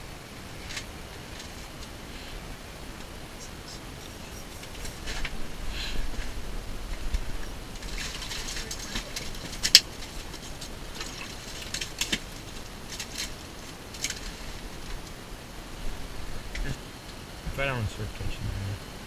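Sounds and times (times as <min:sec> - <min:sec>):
rustling: 0:00.5 - 0:16.8.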